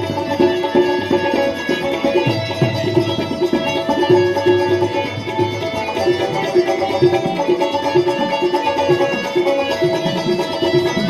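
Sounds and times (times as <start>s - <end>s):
plucked string instrument: 0.0s - 11.0s.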